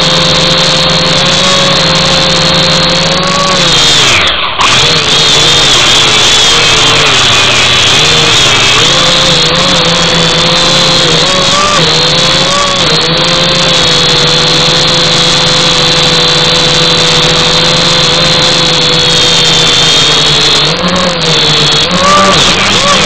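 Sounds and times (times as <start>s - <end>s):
quadcopter propellers whining: 0.0s - 23.0s.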